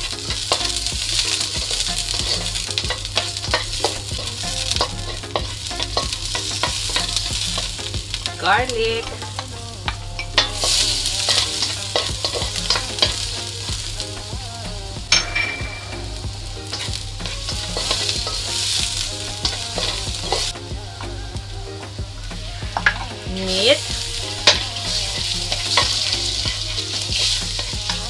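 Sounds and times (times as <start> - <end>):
utensil scraping a pan: 0.0 - 15.3, 15.9 - 20.6, 22.5 - 28.0
garlic and onions sizzling in oil: 0.0 - 28.0.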